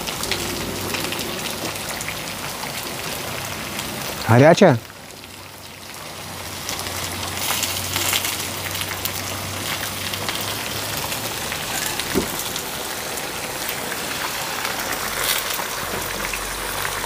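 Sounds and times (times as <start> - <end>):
potatoes sizzling in frying pan: 0.0 - 17.0.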